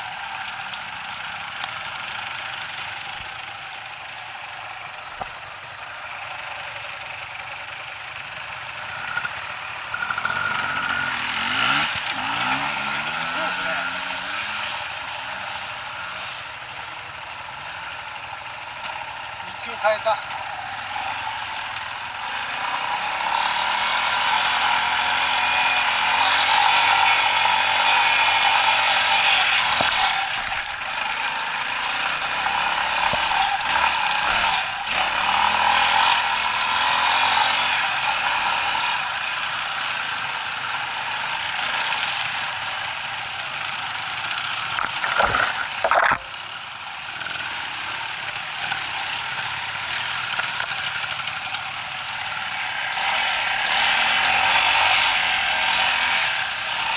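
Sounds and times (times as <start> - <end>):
dirt bike engine at low revs: 0.0 - 56.9.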